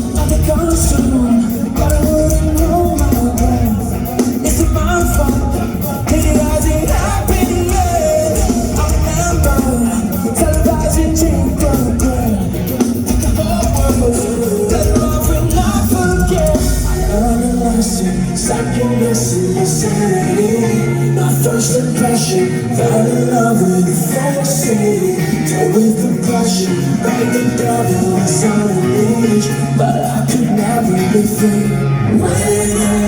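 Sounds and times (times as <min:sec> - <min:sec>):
lead vocalist singing: 0:00.0 - 0:33.0
live rock band playing: 0:00.0 - 0:33.0.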